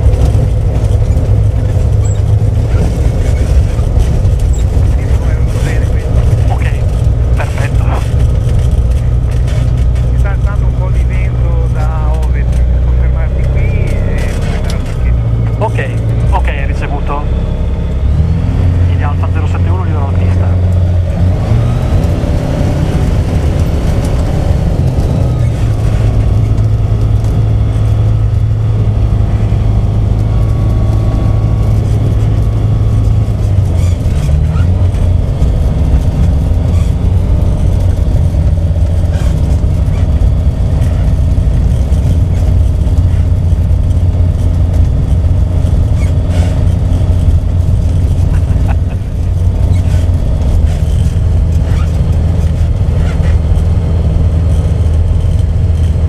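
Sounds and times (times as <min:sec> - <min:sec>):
propeller engine running: 0:00.0 - 0:56.0.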